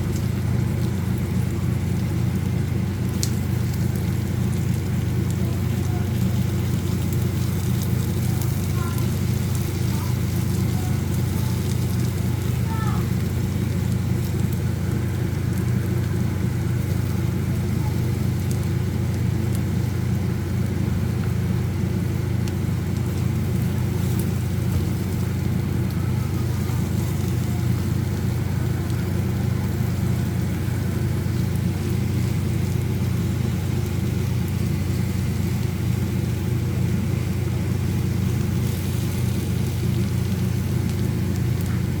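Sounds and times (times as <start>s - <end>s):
constant low hum: 0.0s - 42.0s
vegetables sizzling in a pan: 0.0s - 42.0s.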